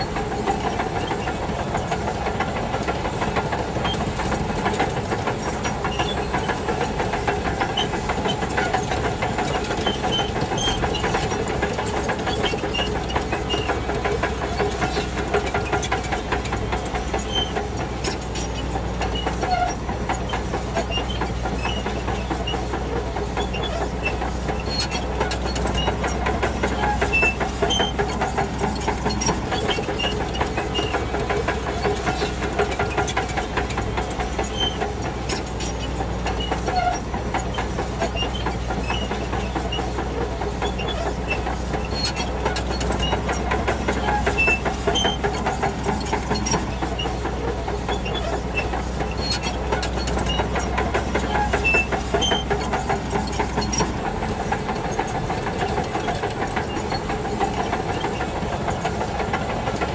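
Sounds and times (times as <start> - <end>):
bulldozer diesel engine drone: 0.0 - 59.9
steel tracks clattering: 0.0 - 59.9
track links squeaking: 0.0 - 59.9.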